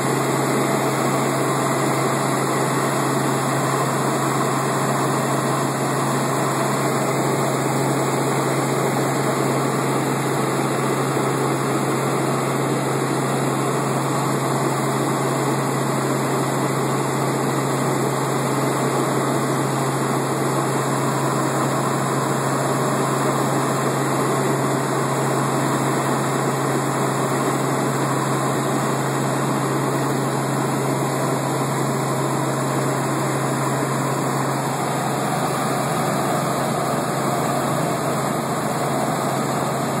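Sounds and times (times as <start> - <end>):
helicopter engine and rotor drone: 0.0 - 40.0.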